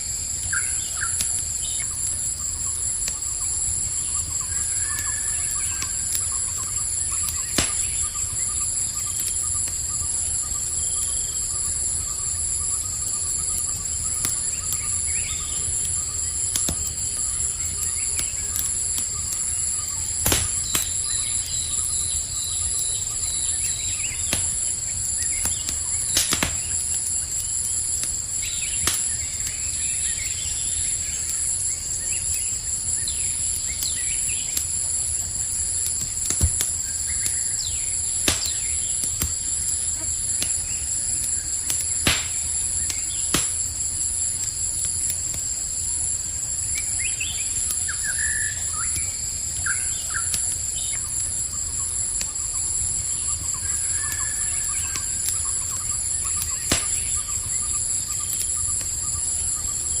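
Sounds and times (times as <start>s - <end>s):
campfire crackling and popping: 0.0s - 60.0s
crickets chirping: 0.0s - 60.0s.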